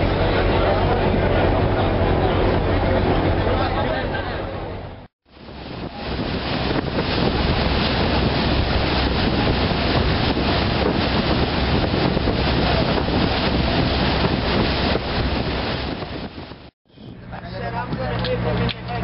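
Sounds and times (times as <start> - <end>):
water rushing along boat hull: 0.0 - 16.7
wind buffeting microphone: 0.0 - 18.5
low engine drone: 0.0 - 19.0.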